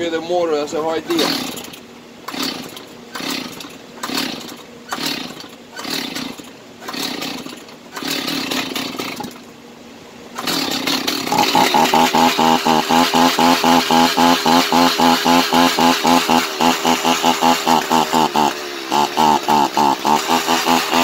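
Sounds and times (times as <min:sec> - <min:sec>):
chainsaw engine sputtering: 0:00.8 - 0:09.5, 0:10.3 - 0:21.0
chainsaw pull-start: 0:00.9 - 0:09.5, 0:10.3 - 0:21.0.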